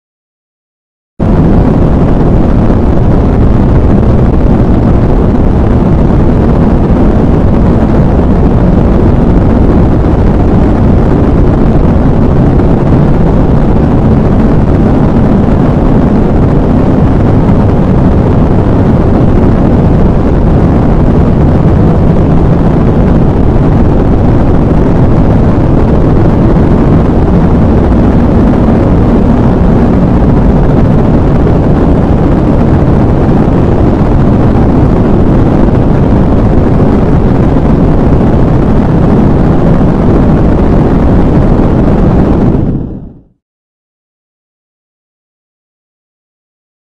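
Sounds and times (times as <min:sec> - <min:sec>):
rocket engine rumble: 0:01.2 - 0:43.4.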